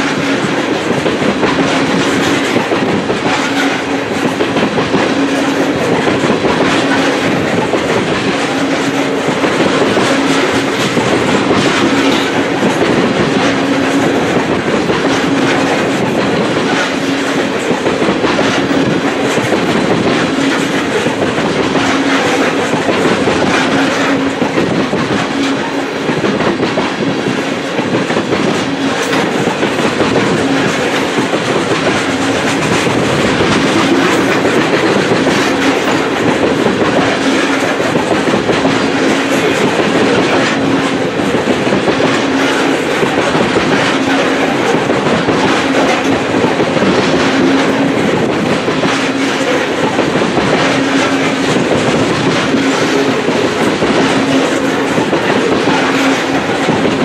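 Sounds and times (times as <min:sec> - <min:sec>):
clickety-clack over rail joints: 0:00.0 - 0:57.0
steel wheels rumbling on rail: 0:00.0 - 0:57.0.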